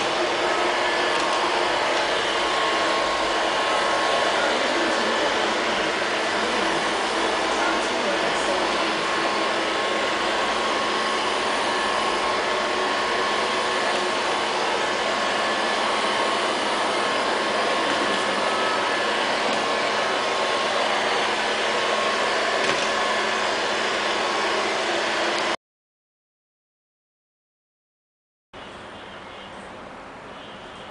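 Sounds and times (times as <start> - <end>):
robot vacuum whirring: 0.0 - 25.5.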